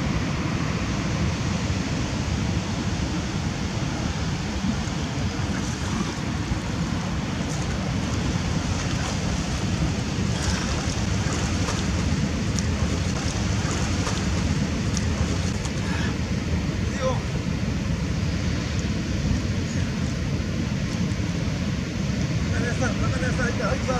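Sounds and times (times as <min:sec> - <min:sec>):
wind rumbling on microphone: 0:00.0 - 0:23.9.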